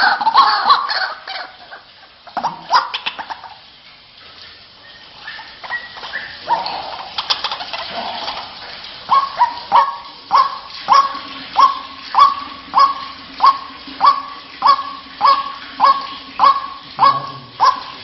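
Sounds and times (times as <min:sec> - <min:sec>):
waterhen calling: 0:00.0 - 0:18.0.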